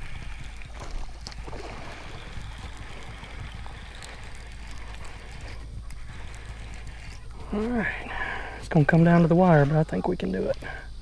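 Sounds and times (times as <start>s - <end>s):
low rumble and hiss: 0.0s - 11.0s
water lapping around boat: 0.0s - 11.0s.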